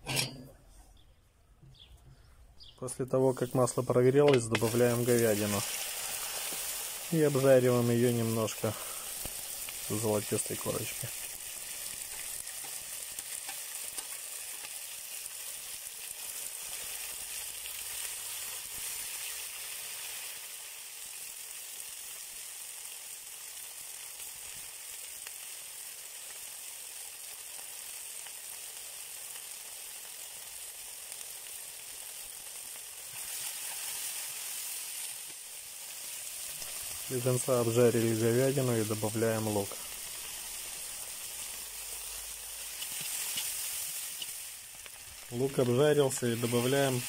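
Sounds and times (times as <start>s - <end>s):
meat sizzling in hot oil: 3.2s - 47.0s.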